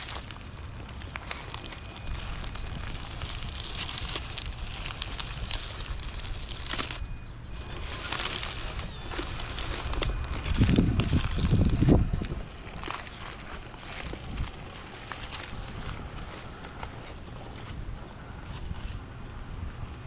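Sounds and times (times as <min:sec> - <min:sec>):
faint electric motor whine: 0:00.0 - 0:20.0
tyres crackling over gravel: 0:00.0 - 0:20.0.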